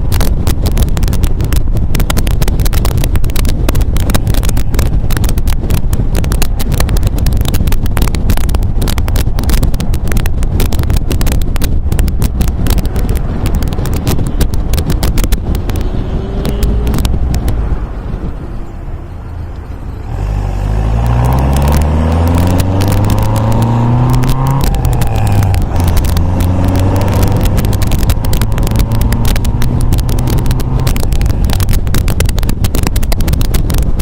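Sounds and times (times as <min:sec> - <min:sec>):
car engine and road rumble: 0:00.0 - 0:34.0
wind buffeting microphone: 0:00.0 - 0:34.0.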